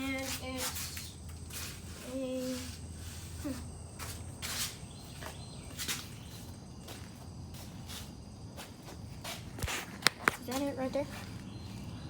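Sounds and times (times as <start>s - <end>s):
soft footsteps: 0.1s - 12.0s.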